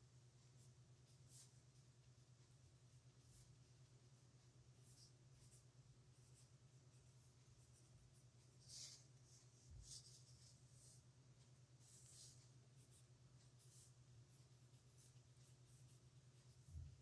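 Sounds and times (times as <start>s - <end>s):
low steady hum: 0.0s - 17.0s
pen scratching on paper: 0.4s - 9.1s, 11.7s - 17.0s.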